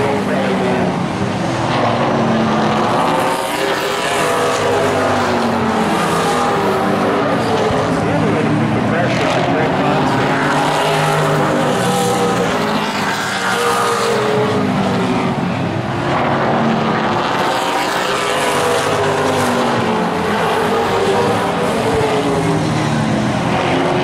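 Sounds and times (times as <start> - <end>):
stock car engines racing: 0.0 - 24.0.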